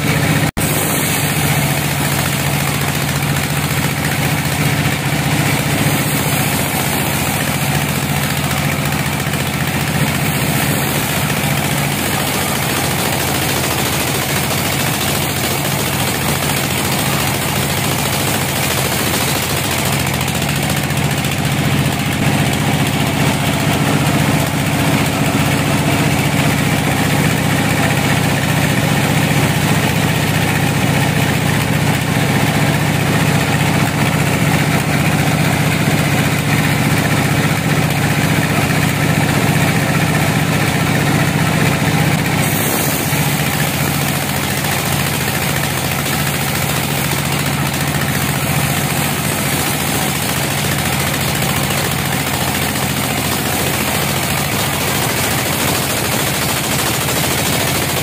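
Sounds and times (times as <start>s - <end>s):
bandsaw cutting through log: 0.6s - 36.6s, 41.6s - 58.0s.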